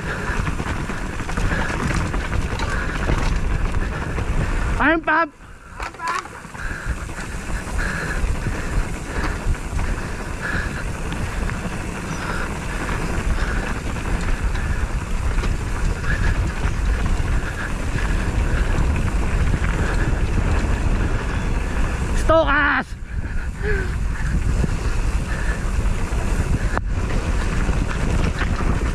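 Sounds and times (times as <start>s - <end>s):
vehicle travel noise: 0.0s - 28.9s
wind rushing: 0.0s - 28.9s.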